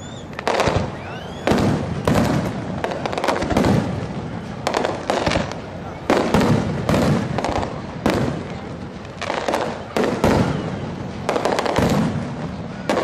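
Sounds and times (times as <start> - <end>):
fireworks bursting with echo: 0.0 - 13.0.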